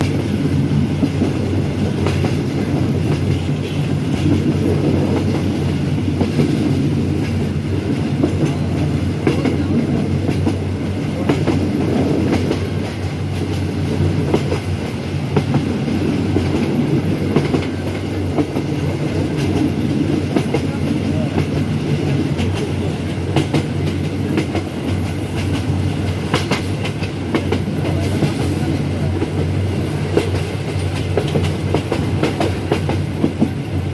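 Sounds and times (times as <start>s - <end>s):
railway carriage rumble: 0.0s - 33.9s
wheels clicking over rail joints: 0.0s - 33.9s.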